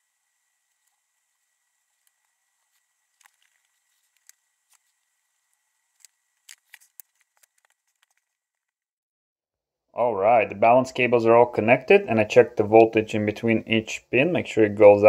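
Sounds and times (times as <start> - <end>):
faint steady hiss: 0.0 - 8.4, 10.0 - 15.0.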